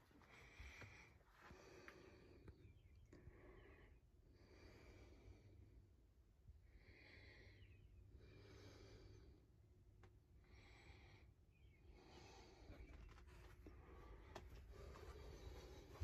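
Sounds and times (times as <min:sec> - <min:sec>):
person breathing softly: 0:00.0 - 0:16.0.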